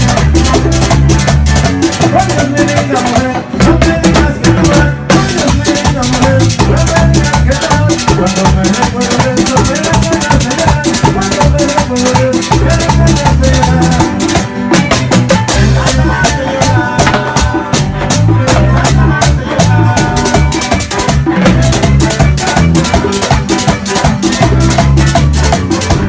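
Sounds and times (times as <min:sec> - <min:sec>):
live band playing: 0:00.0 - 0:26.0
rattling percussion beat: 0:00.0 - 0:26.0.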